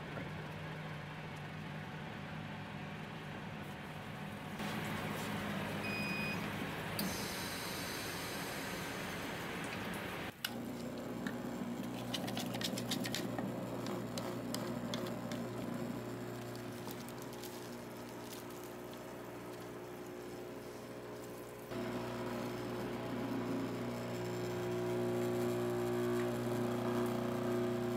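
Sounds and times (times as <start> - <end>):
vibrator humming: 4.6 - 27.9.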